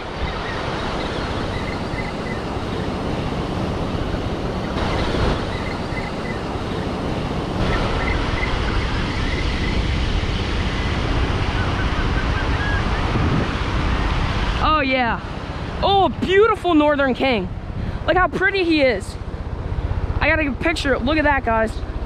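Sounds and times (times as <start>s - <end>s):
ocean surf washing up: 0.0s - 18.3s
wind rumbling on microphone: 0.0s - 22.0s.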